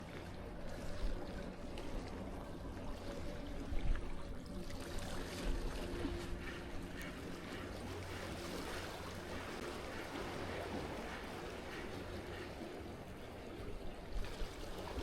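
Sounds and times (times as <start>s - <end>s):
seawater lapping at shore: 0.0s - 15.0s.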